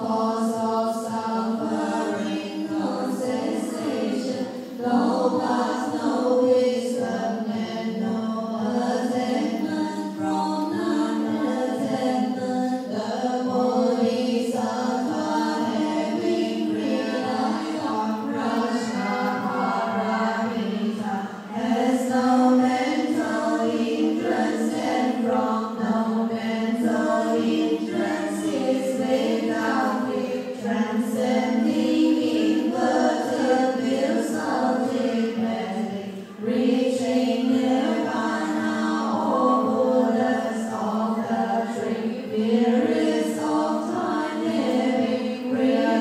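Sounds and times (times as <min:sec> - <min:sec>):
group chanting in unison: 0:00.0 - 0:46.0.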